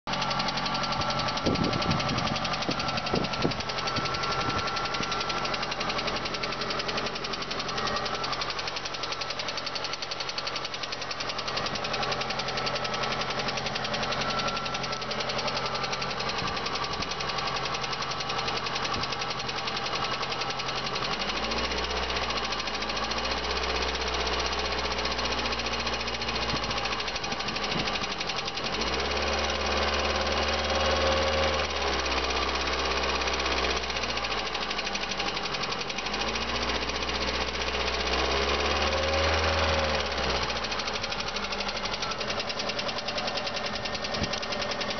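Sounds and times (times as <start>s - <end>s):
car engine running: 0.0s - 44.9s
fast engine knock: 0.1s - 44.9s.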